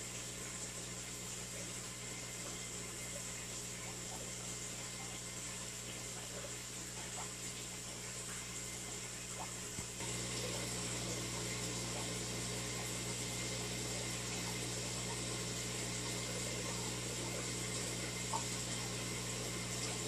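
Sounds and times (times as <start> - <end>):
filter pump humming: 0.0 - 20.0
moving water: 0.0 - 20.0.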